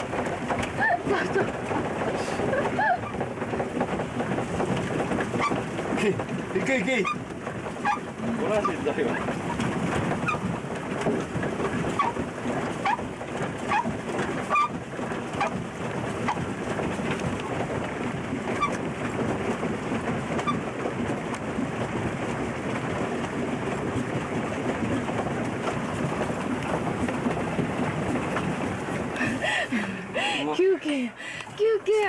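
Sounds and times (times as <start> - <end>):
paddle wheel splashing: 0.0 - 32.0.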